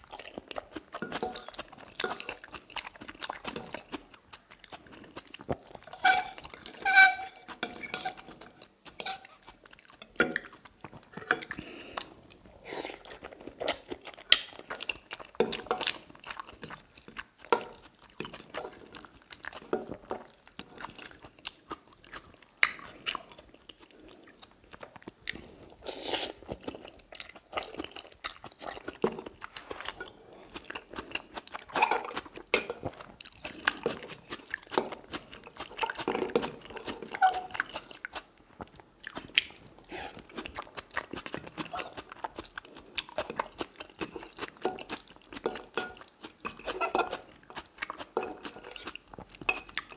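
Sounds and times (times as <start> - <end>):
chewing and mouth noises: 0.0 - 6.9, 7.5 - 49.9.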